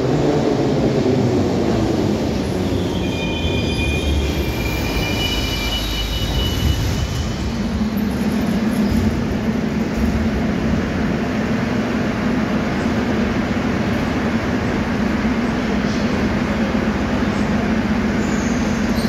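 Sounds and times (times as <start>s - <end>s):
stopped train humming: 0.0s - 19.0s.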